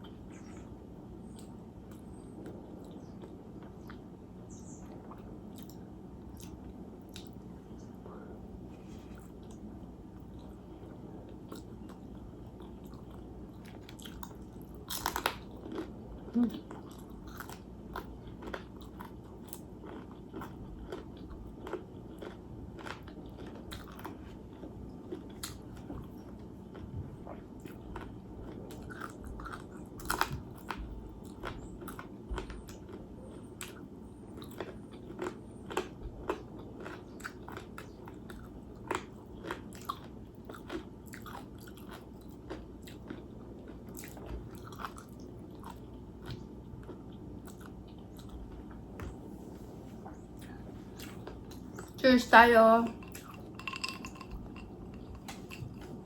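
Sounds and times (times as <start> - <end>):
person chewing crunchy food: 0.0 - 52.0, 52.9 - 56.0.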